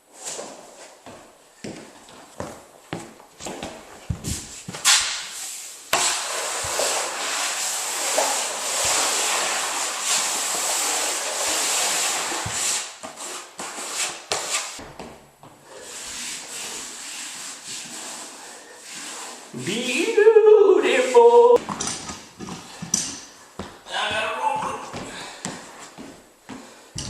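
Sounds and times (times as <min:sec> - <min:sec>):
vinyl flooring dragged rustling: 0:00.0 - 0:20.1, 0:24.8 - 0:27.0.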